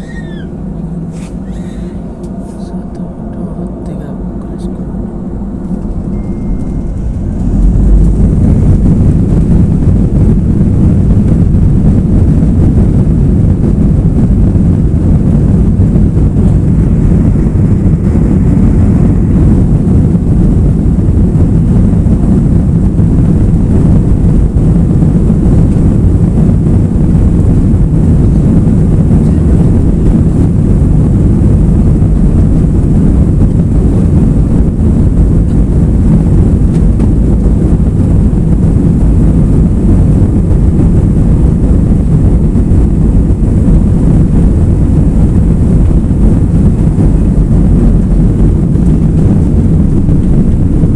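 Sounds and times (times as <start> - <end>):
airliner engines rumbling: 0.0 - 50.9.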